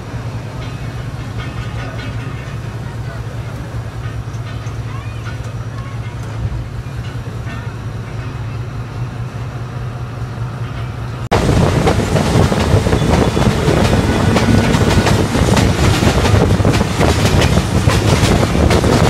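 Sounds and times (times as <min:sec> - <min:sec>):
train wheels clattering over rails: 0:00.0 - 0:08.4, 0:10.6 - 0:19.0
train rolling low hum: 0:00.0 - 0:19.0.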